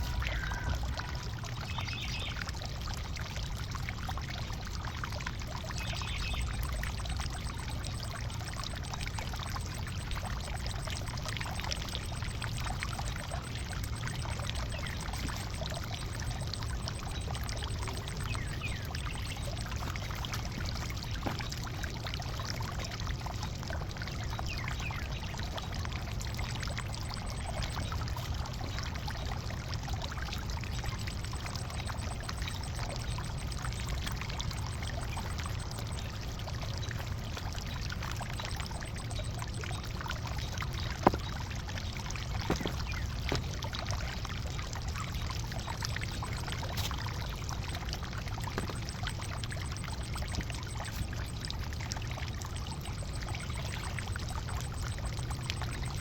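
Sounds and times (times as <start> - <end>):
small ticks: 0.0 - 56.0.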